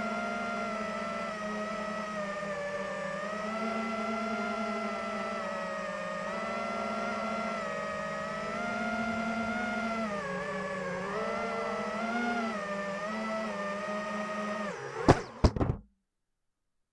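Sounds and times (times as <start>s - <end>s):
drone propellers buzzing: 0.0s - 15.8s.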